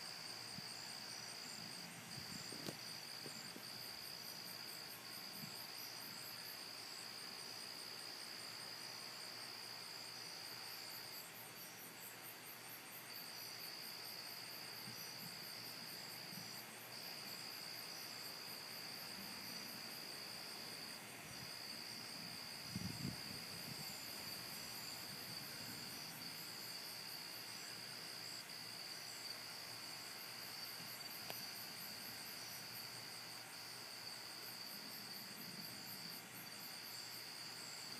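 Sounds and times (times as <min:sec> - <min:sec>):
crickets trilling: 0:00.0 - 0:37.9.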